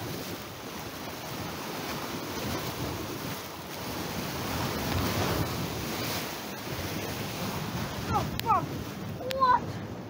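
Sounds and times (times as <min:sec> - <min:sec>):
choppy sea washing against pier: 0:00.0 - 0:10.0
wind buffeting microphone: 0:00.0 - 0:10.0.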